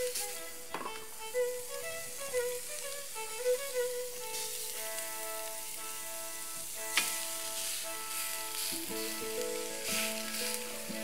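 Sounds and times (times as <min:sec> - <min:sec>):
ribs sizzling on grill pan: 0:00.0 - 0:11.0
sustained background music: 0:00.0 - 0:11.0.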